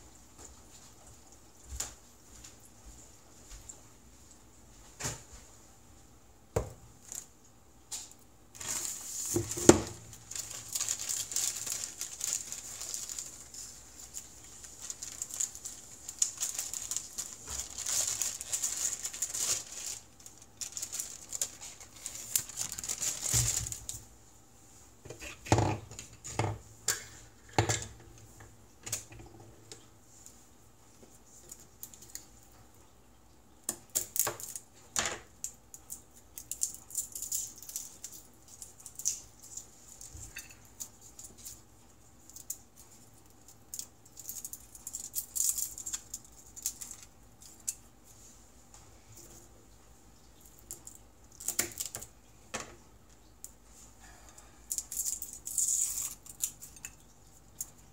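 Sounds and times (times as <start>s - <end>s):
rustling crinkling noise: 0.1s - 6.2s, 6.9s - 25.4s, 27.0s - 54.0s.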